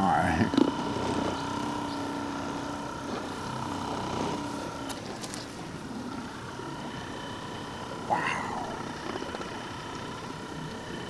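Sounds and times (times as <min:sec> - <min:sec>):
massage gun motor humming: 0:00.0 - 0:11.0.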